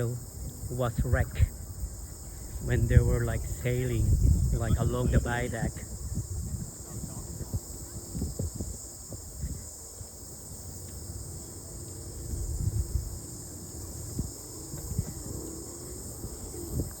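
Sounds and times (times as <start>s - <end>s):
wind rumbling on microphone: 0.0s - 10.4s, 11.7s - 17.0s
insects chorus: 0.0s - 17.0s.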